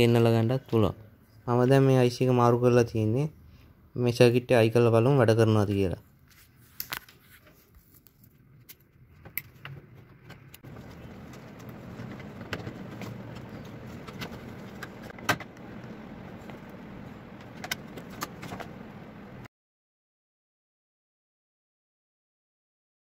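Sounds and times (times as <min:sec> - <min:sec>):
low background noise: 0:00.0 - 0:19.5.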